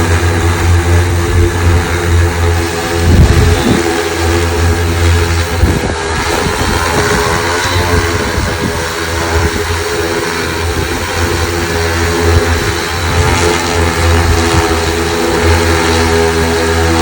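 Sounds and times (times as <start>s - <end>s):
low rumbles: 0.0s - 15.6s
drone propellers humming: 0.0s - 17.0s.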